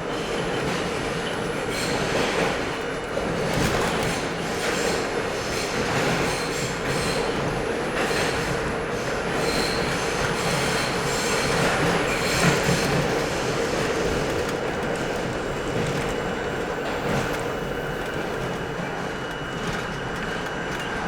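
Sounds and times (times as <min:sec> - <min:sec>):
subway train wheels rumbling on rail: 0:00.0 - 0:21.0.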